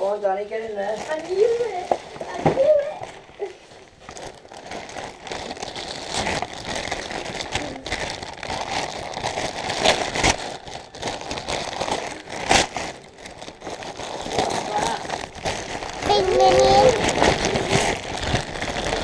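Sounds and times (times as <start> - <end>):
wrapping paper rustling: 0.0 - 19.0
paper ripping: 1.0 - 19.0.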